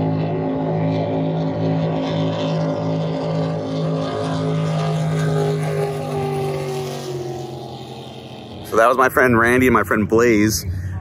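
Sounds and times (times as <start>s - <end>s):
jet boat engines droning: 0.0s - 11.0s.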